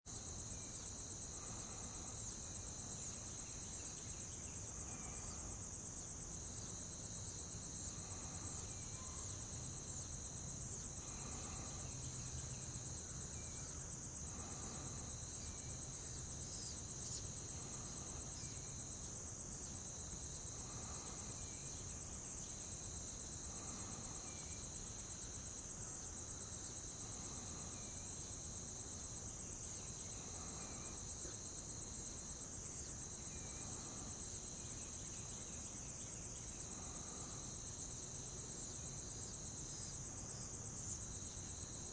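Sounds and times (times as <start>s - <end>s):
faint insect buzzing: 0.1s - 41.9s
high-pitched insect chorus: 0.1s - 41.9s.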